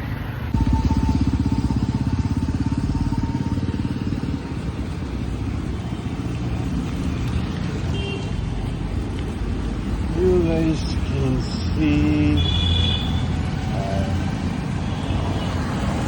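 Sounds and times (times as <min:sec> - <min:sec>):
traffic and wind rumble: 0:00.0 - 0:16.0
motorcycle engine pulsing: 0:00.5 - 0:16.0.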